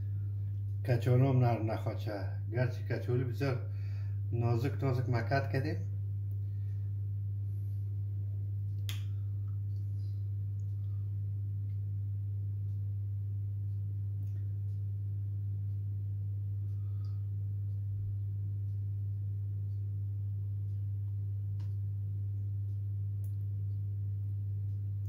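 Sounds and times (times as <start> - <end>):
deep low hum: 0.0 - 25.0.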